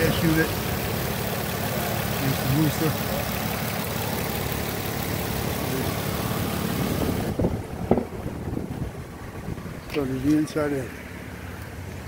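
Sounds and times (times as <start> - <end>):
car engine idling with hiss: 0.0 - 12.0.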